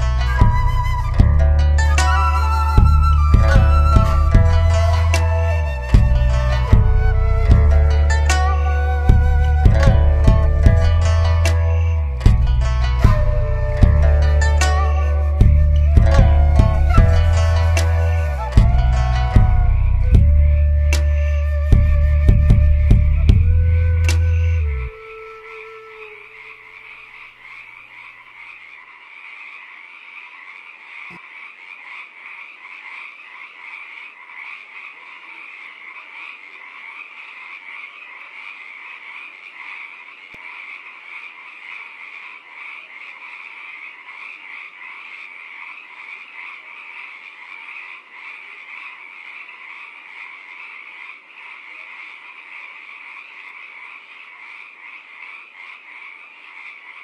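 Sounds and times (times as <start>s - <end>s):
chorus of small animals chirring: 0.0s - 57.0s.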